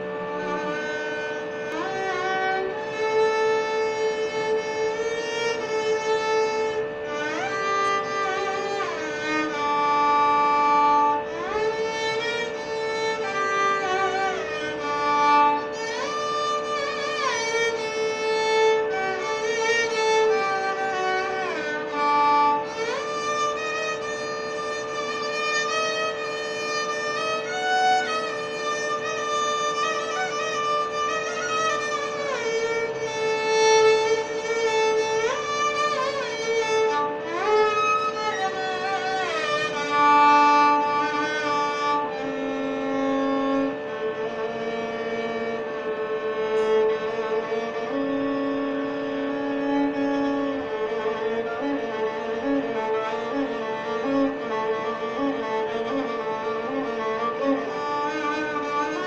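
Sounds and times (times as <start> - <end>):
steady drone: 0.0 - 59.0
violin playing slow melody: 0.0 - 59.0.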